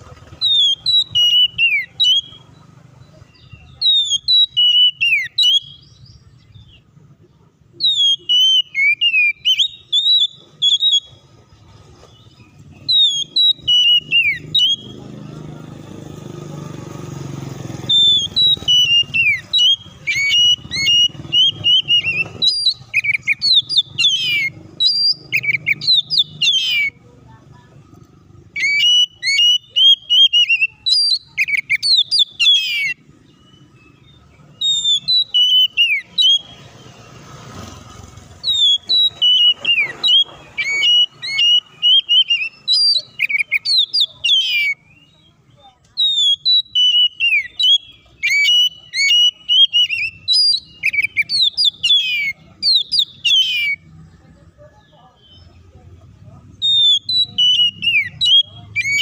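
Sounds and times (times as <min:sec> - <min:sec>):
bird singing whistled notes: 0:00.0 - 0:07.0, 0:07.7 - 0:16.5, 0:17.3 - 0:27.1, 0:28.1 - 0:55.8, 0:56.4 - 0:59.0.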